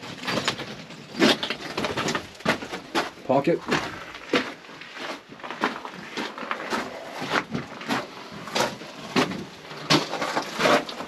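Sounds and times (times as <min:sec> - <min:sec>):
footsteps on gravel: 0:00.3 - 0:11.0.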